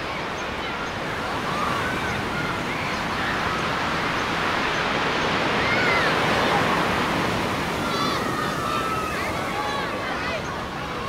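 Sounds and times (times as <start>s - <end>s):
sea surf washing up beach: 0.0s - 11.0s.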